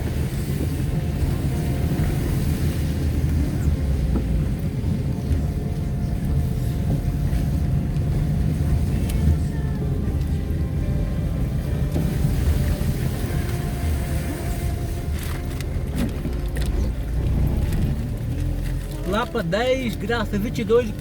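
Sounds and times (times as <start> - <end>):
faint music: 0.0 - 21.0
vehicle engine and road rumble: 0.0 - 21.0.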